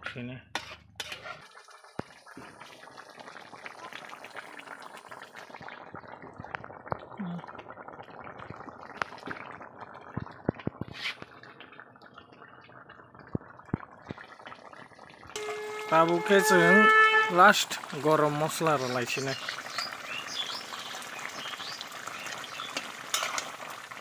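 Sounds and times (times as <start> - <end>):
curry bubbling in a wok: 0.5 - 24.0.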